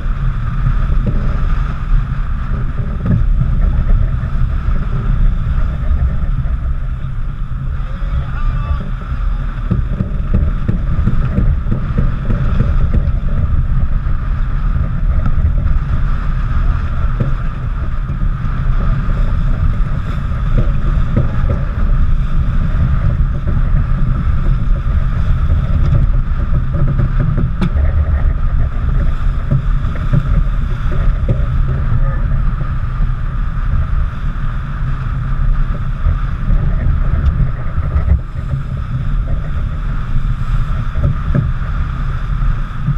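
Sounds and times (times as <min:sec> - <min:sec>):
water rushing along a hull: 0:00.0 - 0:42.9
wind buffeting microphone: 0:00.0 - 0:42.9.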